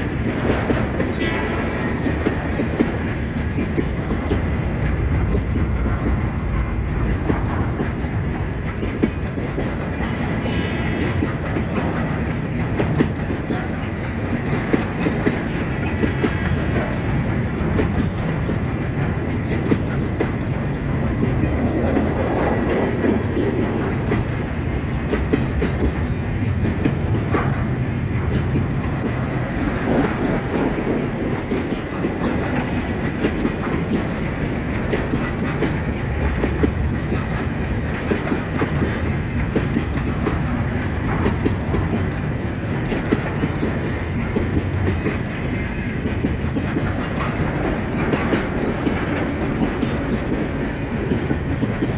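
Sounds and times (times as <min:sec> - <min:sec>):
freight train rumble and rattle: 0:00.0 - 0:51.9
train wheels clicking over rail joints: 0:00.0 - 0:51.9.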